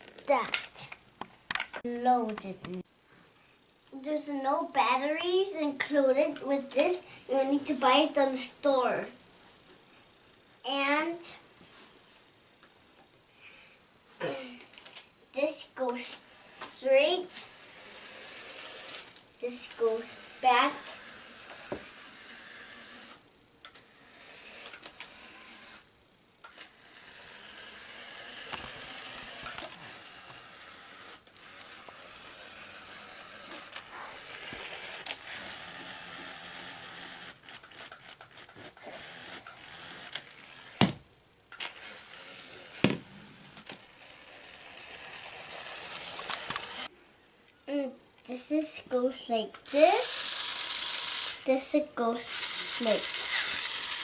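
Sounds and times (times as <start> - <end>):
toy motor and gears whirring: 0.0 - 1.0, 4.0 - 9.1, 14.6 - 46.9, 48.2 - 54.0.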